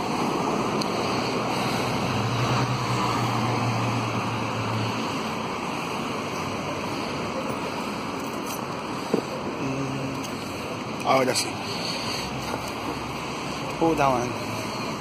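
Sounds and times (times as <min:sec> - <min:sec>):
rush of traffic: 0:00.0 - 0:15.0.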